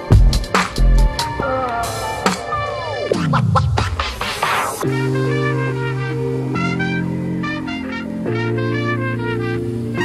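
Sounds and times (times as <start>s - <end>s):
electronic music with heavy beat: 0.0s - 8.8s.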